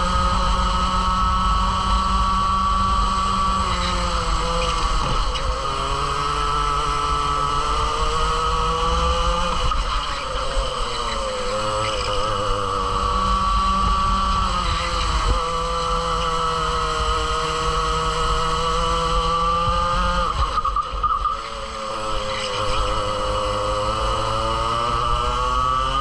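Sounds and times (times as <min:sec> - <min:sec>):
kart engine at high revs: 0:00.0 - 0:26.0.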